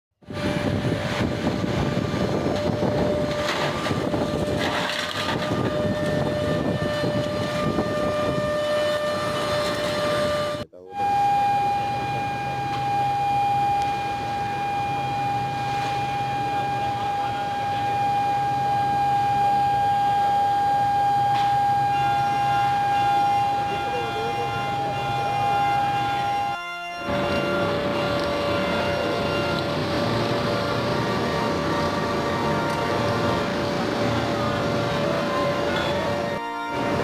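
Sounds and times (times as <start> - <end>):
mill machinery rumbling: 0.2 - 37.0
high-pitched whine over low hum: 0.3 - 37.0.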